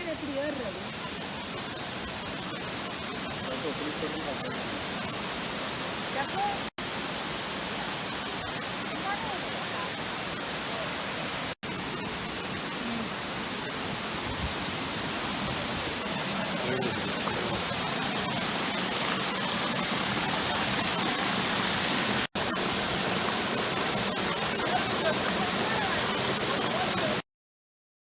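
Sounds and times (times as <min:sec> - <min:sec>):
water rushing: 0:00.0 - 0:27.2.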